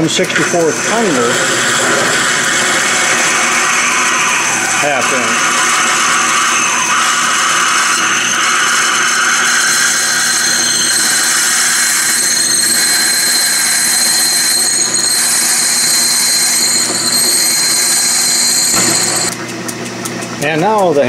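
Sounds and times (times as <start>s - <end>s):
lathe drilling brass: 0.0s - 19.3s.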